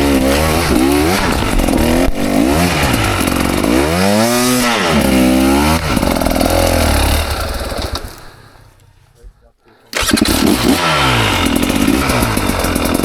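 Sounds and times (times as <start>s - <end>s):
dirt bike engine revving: 0.0s - 8.8s, 9.9s - 13.0s.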